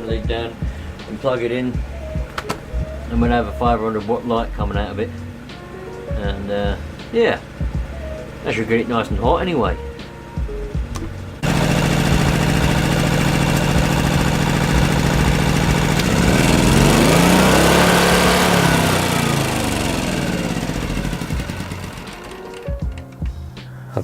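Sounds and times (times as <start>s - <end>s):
petrol generator engine running: 0.0s - 24.0s.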